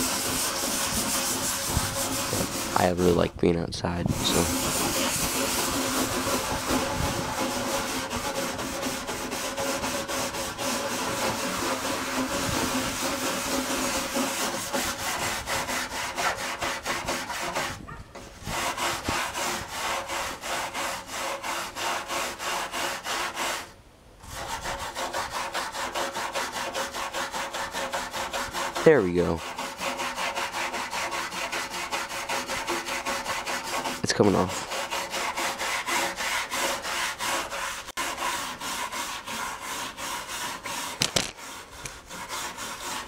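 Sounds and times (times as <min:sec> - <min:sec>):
stiff brush scrubbing wet plastic: 0:00.0 - 0:43.0.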